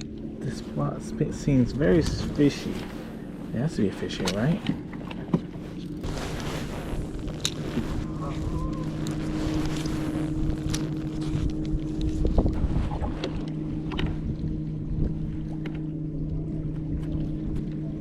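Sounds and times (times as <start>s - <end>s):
low rumble: 0.0s - 18.0s
motor hum: 0.0s - 18.0s.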